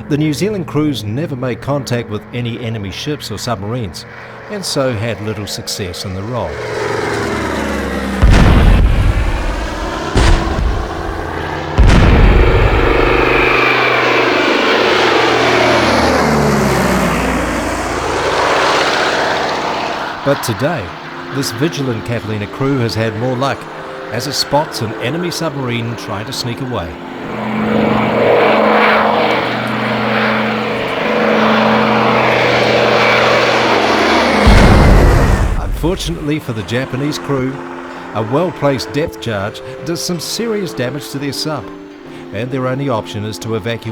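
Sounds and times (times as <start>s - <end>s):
aircraft radial engines droning: 0.0s - 43.9s.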